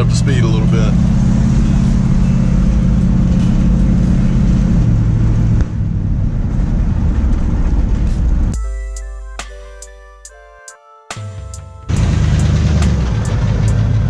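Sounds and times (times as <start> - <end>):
pickup engine and exhaust droning: 0.0 - 8.6, 11.2 - 14.0
road noise: 0.0 - 8.6, 11.3 - 14.0.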